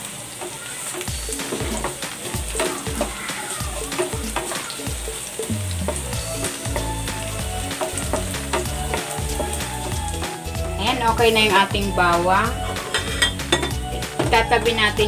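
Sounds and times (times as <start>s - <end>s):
garlic sizzling in oil: 0.0s - 15.0s
low background music: 1.1s - 15.0s.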